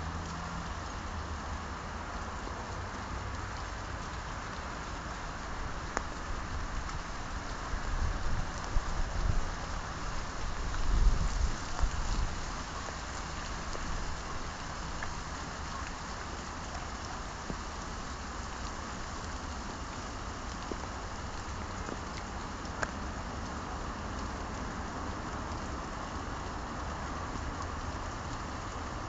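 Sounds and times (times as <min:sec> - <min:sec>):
wet snow pattering on leaves: 0:00.2 - 0:29.0.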